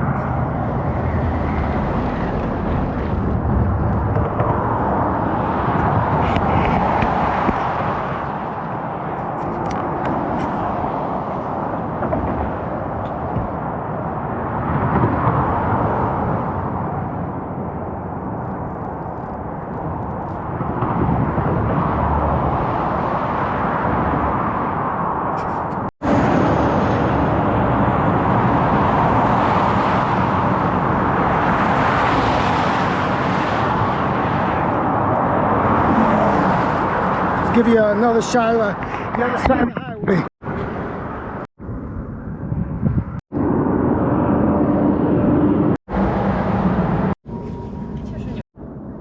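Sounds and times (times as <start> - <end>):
highway traffic passing: 0.0 - 48.9.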